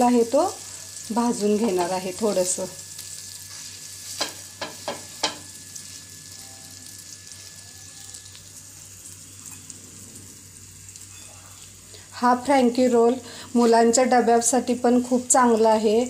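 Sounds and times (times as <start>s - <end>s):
butter sizzling on a pan: 0.0s - 16.0s.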